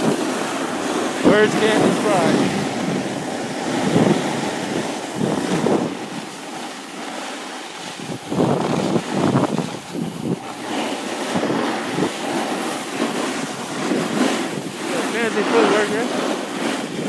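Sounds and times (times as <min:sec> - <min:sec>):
snowboard scraping over snow: 0:00.0 - 0:17.0
wind rushing over microphone: 0:00.0 - 0:17.0.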